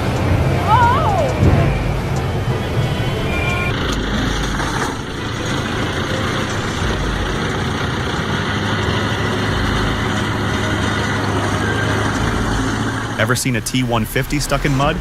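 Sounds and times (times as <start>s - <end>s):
heavy vehicle engine humming: 0.0s - 15.0s.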